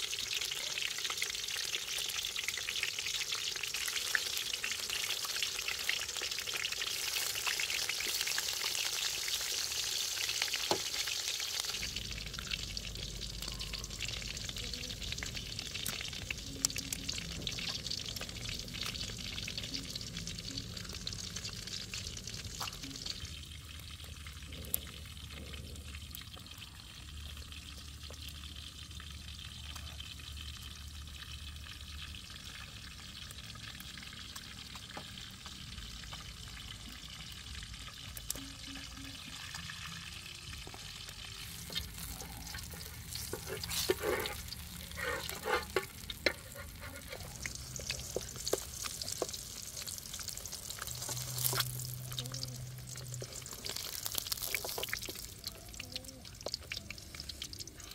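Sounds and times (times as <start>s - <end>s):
eggs sizzling in hot oil: 0.0s - 57.9s.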